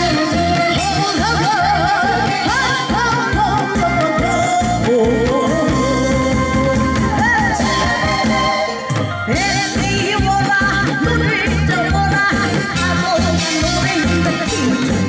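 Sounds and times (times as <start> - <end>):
backing track with steady beat: 0.0 - 15.0
woman singing into microphone: 0.0 - 15.0.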